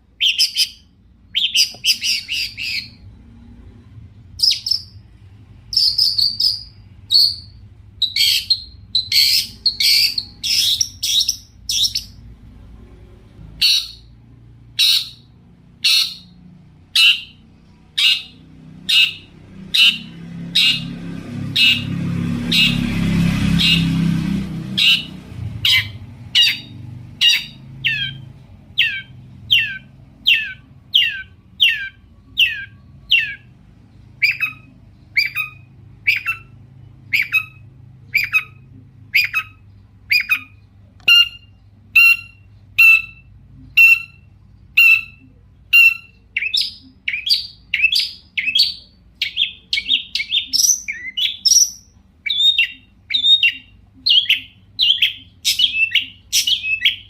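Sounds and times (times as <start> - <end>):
bird calling sharp notes: 0.2 - 3.0, 5.7 - 12.2, 13.5 - 16.4, 17.0 - 33.5, 34.2 - 57.0.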